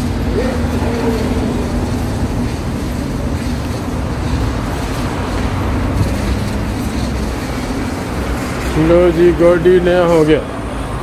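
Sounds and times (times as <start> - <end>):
car wash machinery humming: 0.0 - 11.0.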